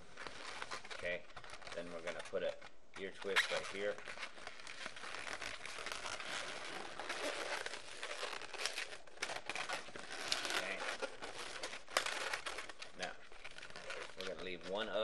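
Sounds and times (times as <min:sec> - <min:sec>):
balloons rubbing and crinkling: 0:00.0 - 0:15.0.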